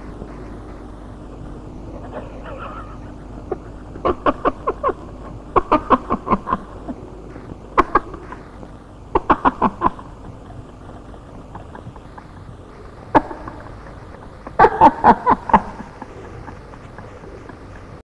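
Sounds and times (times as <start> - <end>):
man laughing: 1.8 - 18.0.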